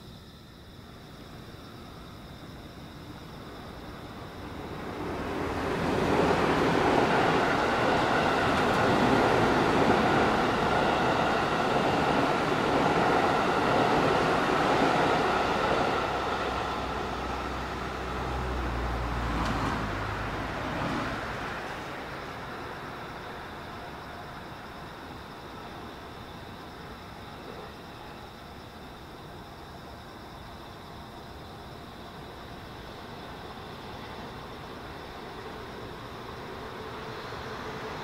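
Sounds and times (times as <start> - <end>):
train passing on rails: 0.0 - 38.0.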